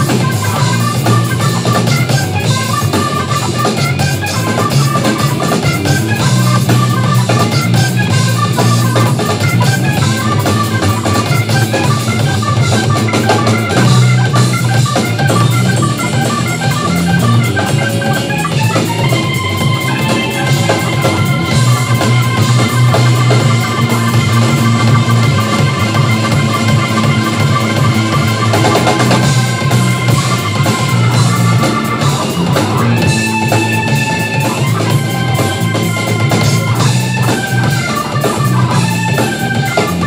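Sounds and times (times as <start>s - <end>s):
drum kit: 0.0s - 40.0s
electric bass: 0.0s - 40.0s
electric guitar: 0.0s - 40.0s
organ keyboard: 0.0s - 40.0s.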